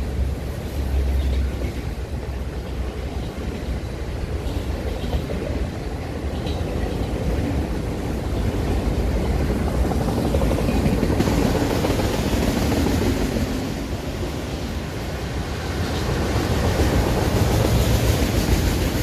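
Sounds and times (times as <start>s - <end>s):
steel wheels rumbling on track: 0.0s - 19.0s.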